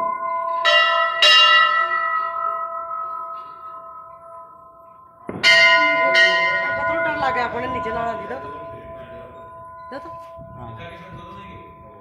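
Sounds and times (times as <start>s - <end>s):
metal bell ringing: 0.0s - 12.0s.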